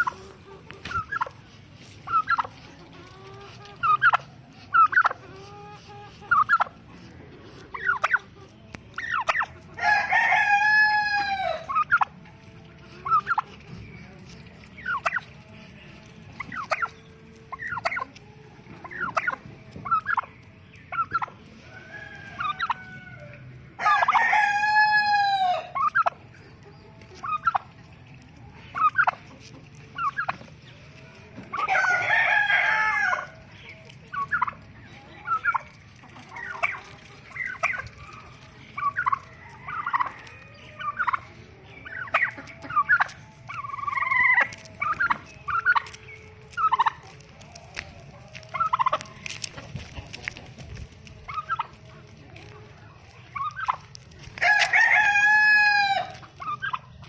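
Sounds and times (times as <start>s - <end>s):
poultry calling: 0.0s - 57.0s.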